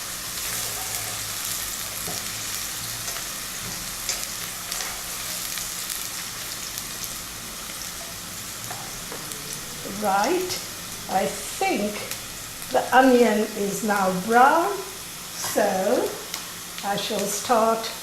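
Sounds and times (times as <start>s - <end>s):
crackles and pops of frying: 0.0s - 18.0s
onion sizzling in a pan: 0.0s - 18.0s.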